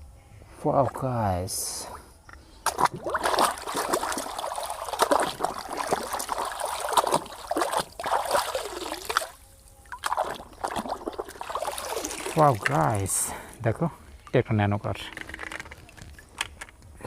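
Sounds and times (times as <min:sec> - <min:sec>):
water splashing and trickling: 0:02.6 - 0:16.4.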